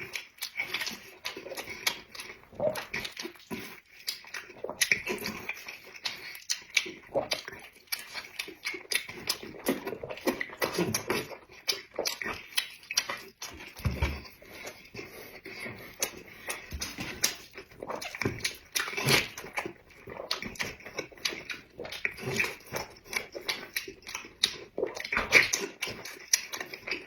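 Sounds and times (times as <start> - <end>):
person chewing and lip smacking: 0.0 - 27.0.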